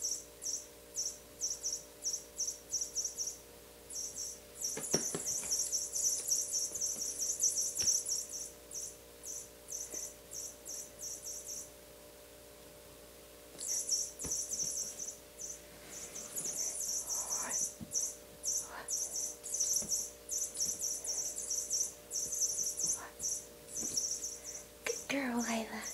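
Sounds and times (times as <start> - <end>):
rapid high-pitched chirping: 0.0 - 11.8, 13.6 - 25.9
faint steady hum: 0.0 - 25.9.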